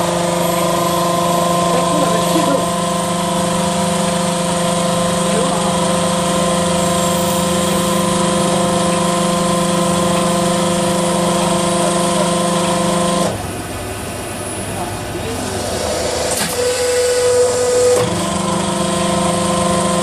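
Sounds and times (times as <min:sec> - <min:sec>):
press machine mechanical hum: 0:00.0 - 0:20.0.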